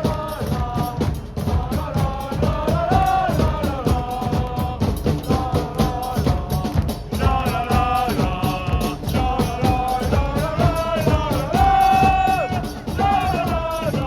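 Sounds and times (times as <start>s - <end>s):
crowd singing a chant: 0.0s - 14.0s
steady drumming: 0.0s - 14.0s.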